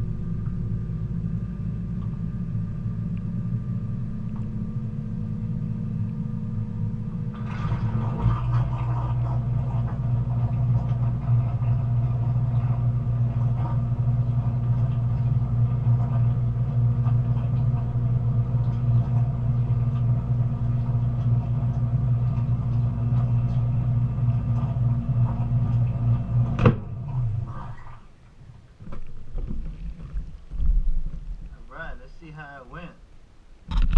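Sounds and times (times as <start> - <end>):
dishwasher motor humming: 0.0 - 31.2.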